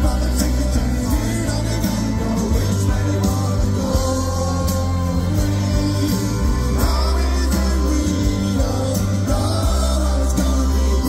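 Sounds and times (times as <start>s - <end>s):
live rock band playing: 0.0s - 11.0s
man singing lead vocal: 0.0s - 11.0s.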